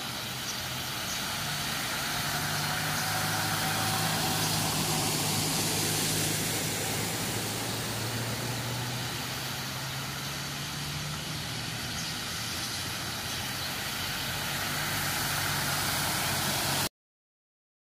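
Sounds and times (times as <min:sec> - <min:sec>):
constant hiss: 0:00.0 - 0:16.9
low engine hum: 0:00.0 - 0:16.9.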